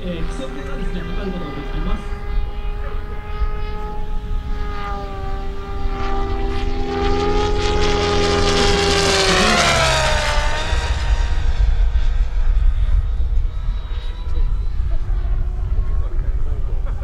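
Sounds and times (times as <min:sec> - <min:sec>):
rc helicopter rotor whine: 0:00.0 - 0:17.0
wind rumble on microphone: 0:00.0 - 0:17.0.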